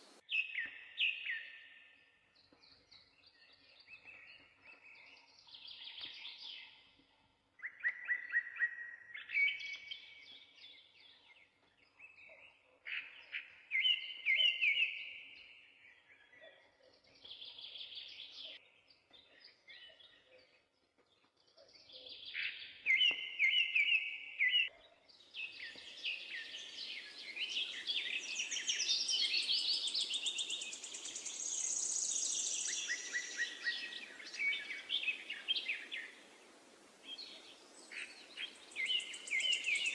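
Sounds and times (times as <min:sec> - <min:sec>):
songbirds singing trilled phrases: 0:00.0 - 0:07.0, 0:07.6 - 0:36.4, 0:37.0 - 0:39.9.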